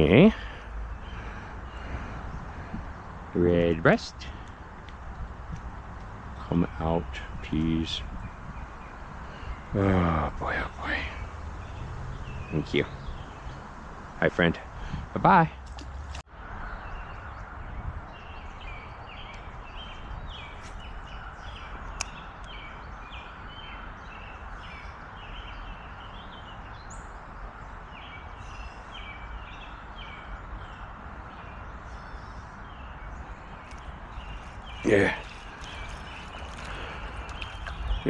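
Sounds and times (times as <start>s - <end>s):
bird chirping: 0.0s - 38.0s
outdoor hiss of wind or water: 0.0s - 38.0s.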